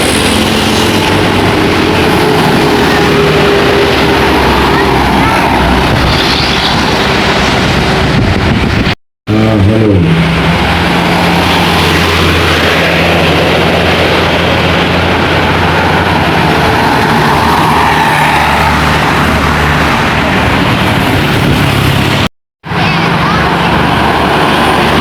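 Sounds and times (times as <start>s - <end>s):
bus diesel engine droning: 0.0s - 8.3s, 9.3s - 25.0s
tyre and road noise: 0.0s - 25.0s.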